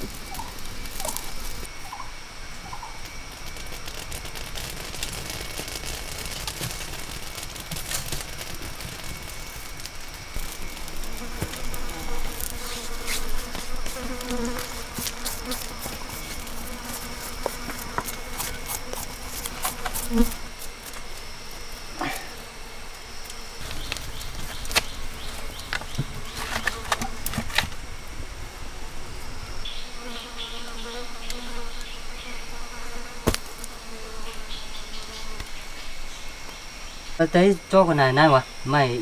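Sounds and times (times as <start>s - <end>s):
forest insects droning: 0.0s - 39.0s.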